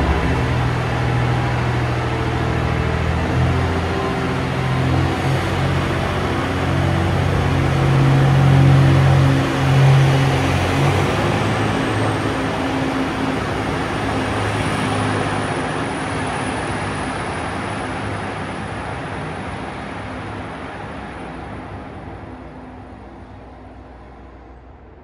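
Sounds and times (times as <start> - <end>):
diesel railcar engine humming: 0.0 - 25.0
train running noise: 0.0 - 25.0.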